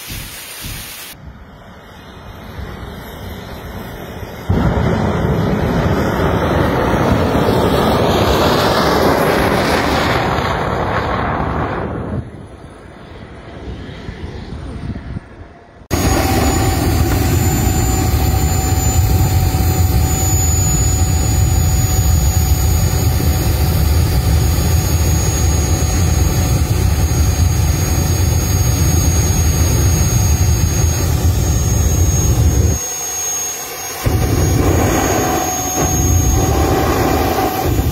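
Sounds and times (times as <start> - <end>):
jet engine high-pitched whine: 0.0 - 37.9
jet engine roaring: 0.0 - 37.9.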